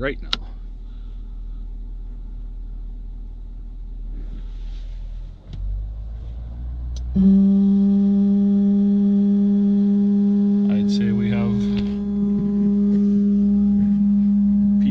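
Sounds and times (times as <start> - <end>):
diesel engine idling: 0.0 - 14.9
loud steady hum: 0.0 - 14.9.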